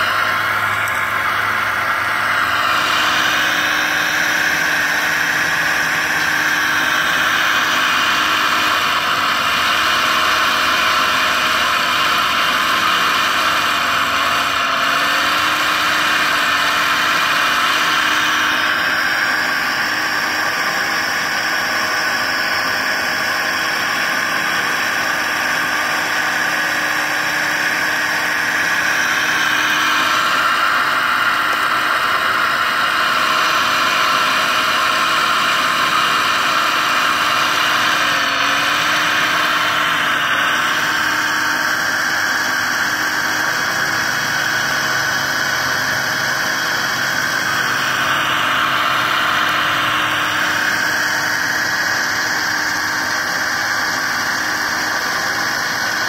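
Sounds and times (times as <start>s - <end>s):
higher whine: 0.0s - 56.0s
model excavator mechanical whir: 0.0s - 56.0s.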